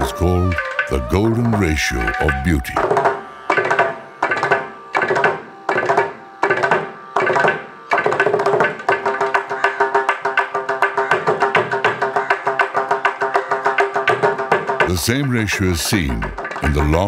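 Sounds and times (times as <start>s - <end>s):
hand drum strokes: 0.0s - 17.0s.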